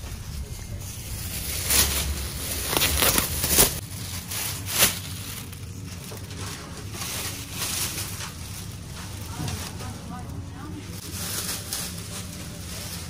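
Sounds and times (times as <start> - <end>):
plastic bag crinkling: 0.8 - 13.0
sharp plastic crackles: 1.1 - 13.0.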